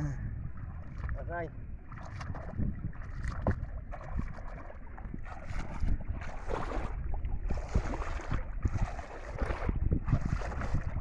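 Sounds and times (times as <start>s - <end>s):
wind rumbling on microphone: 0.0s - 11.0s
wading through water splashing: 0.4s - 11.0s.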